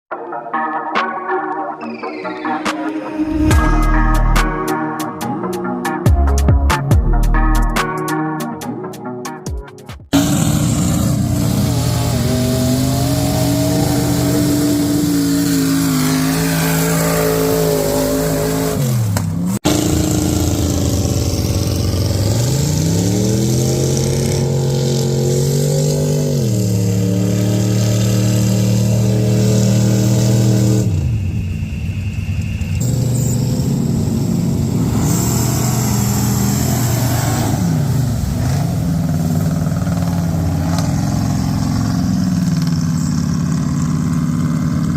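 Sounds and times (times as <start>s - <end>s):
truck engine revving: 2.0s - 8.0s, 10.1s - 44.9s.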